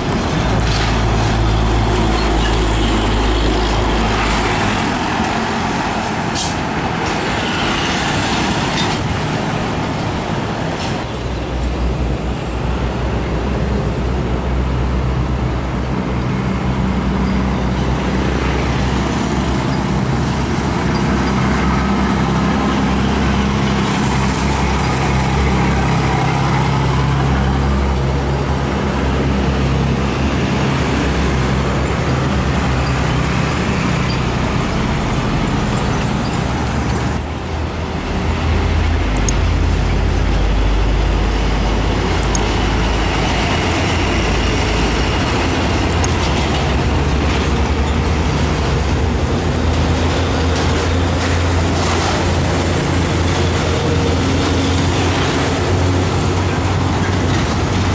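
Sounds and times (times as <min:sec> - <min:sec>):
road traffic: 0:00.0 - 0:57.9
truck diesel engines running: 0:00.0 - 0:57.9.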